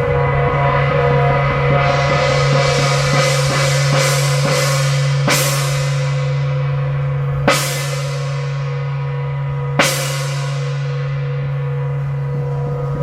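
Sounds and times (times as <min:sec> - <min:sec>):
cymbal crashes: 0:00.0 - 0:13.0
sustained chord: 0:00.0 - 0:13.0.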